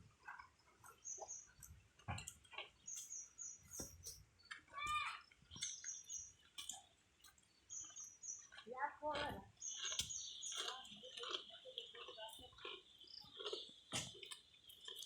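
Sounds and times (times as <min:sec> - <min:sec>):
grass torn and chewed: 0:00.1 - 0:15.0.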